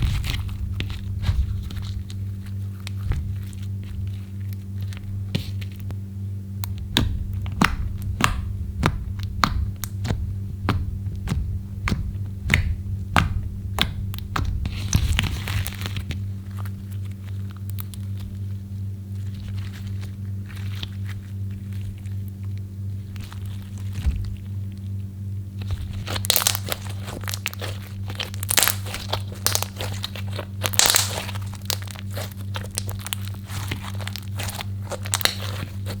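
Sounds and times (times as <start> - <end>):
slime squishing and crackling: 0.0 - 5.9, 6.6 - 36.0
steady low hum: 0.0 - 36.0.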